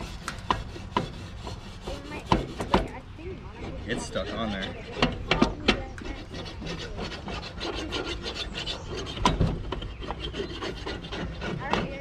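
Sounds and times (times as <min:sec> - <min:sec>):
grill grate being scraped: 0:00.0 - 0:12.0.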